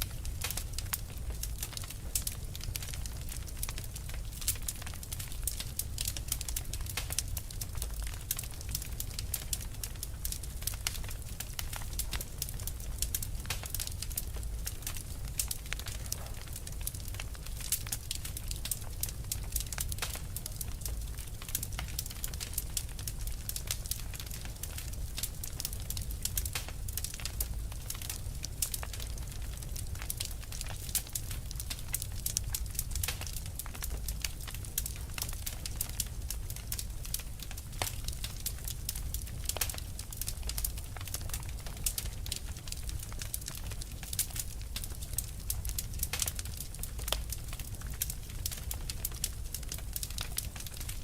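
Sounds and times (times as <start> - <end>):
fire crackling and popping: 0.0 - 51.0
low fire rumble: 0.0 - 51.0.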